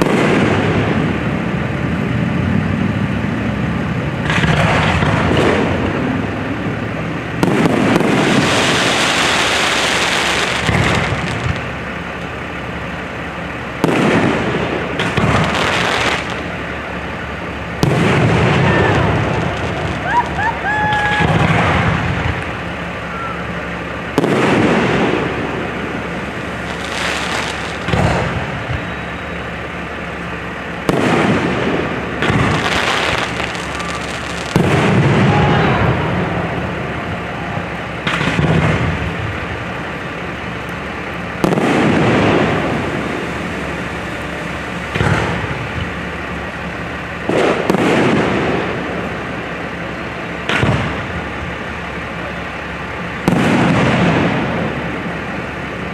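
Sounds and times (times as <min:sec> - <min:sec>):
fireworks booming: 0:00.0 - 0:55.9
fireworks rumble and crackle: 0:00.0 - 0:55.9.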